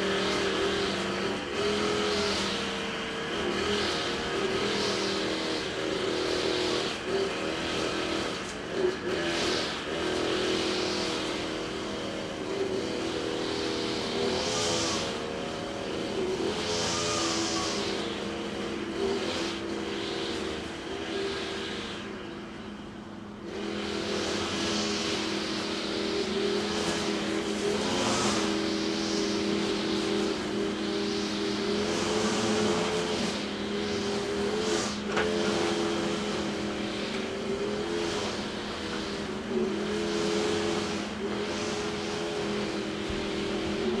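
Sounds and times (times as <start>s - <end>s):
brush cutter engine revving: 0.0s - 44.0s.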